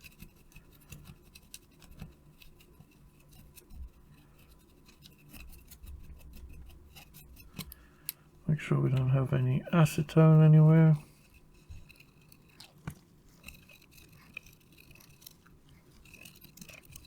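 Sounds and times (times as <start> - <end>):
hand tool scratching circuit board: 0.0 - 17.0.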